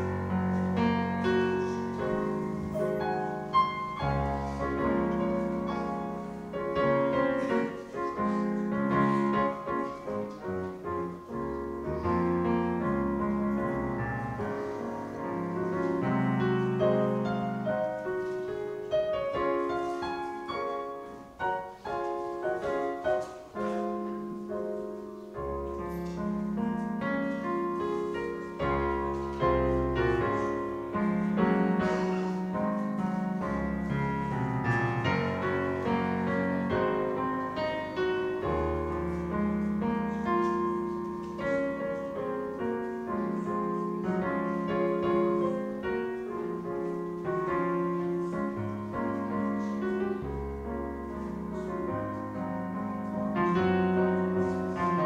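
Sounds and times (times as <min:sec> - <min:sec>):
solo piano hymn chords: 0:00.0 - 0:55.0.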